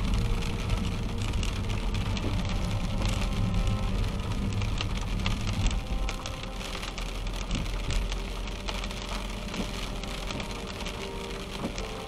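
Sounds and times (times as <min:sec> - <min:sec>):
rain drops on car: 0:00.0 - 0:12.0
tyres on wet road: 0:00.0 - 0:12.0.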